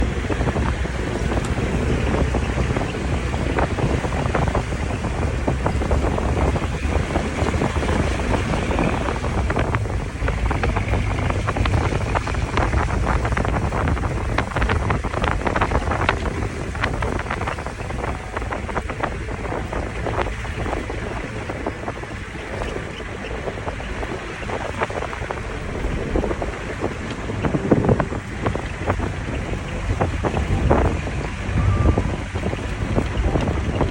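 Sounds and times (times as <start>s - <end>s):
wind buffeting microphone: 0.0s - 33.9s
small crackles: 0.2s - 33.9s.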